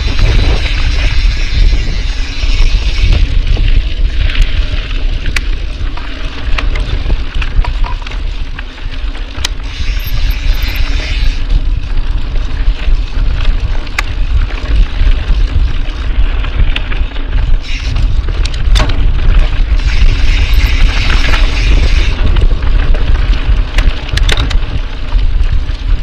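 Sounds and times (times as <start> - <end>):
bike clicks and rattles: 0.0 - 26.0
wind rumble on microphone: 0.0 - 26.0.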